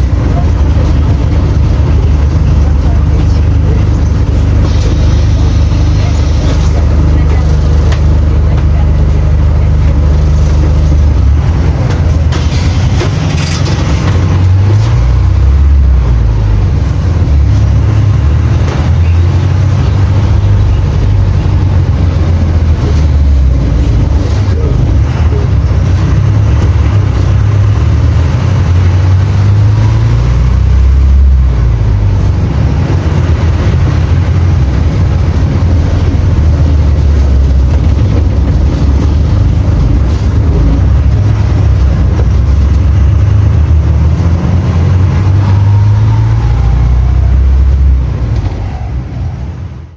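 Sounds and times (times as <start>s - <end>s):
bus diesel engine revving: 0.0s - 49.9s.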